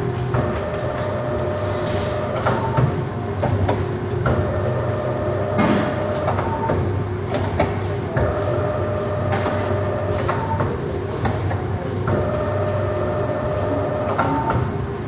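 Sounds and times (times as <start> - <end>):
mechanism clicks and clanks: 0.0 - 15.0
motor hum with whine: 0.0 - 15.0.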